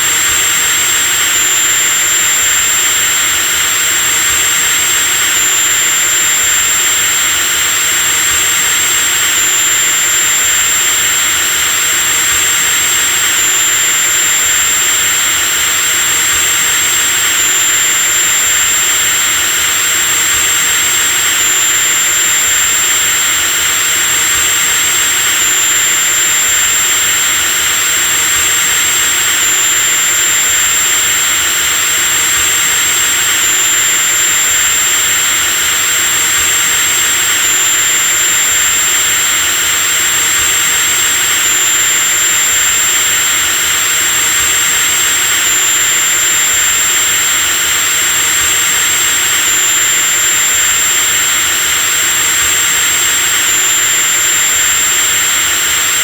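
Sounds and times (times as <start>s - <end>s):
electric drill whining: 0.0s - 56.0s.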